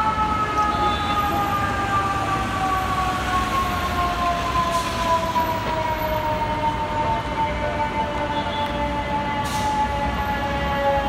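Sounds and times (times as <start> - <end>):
fire engine siren wailing: 0.0 - 11.0
traffic noise: 0.0 - 11.0.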